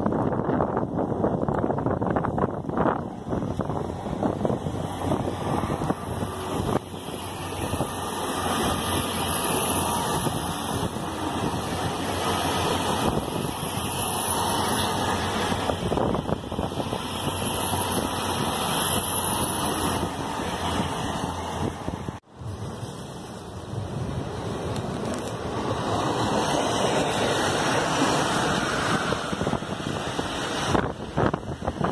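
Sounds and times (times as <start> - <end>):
train passing at speed: 0.0 - 31.9.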